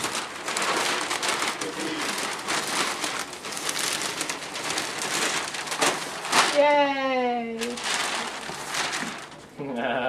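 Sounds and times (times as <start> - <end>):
paper rustling and crinkling: 0.0 - 9.6.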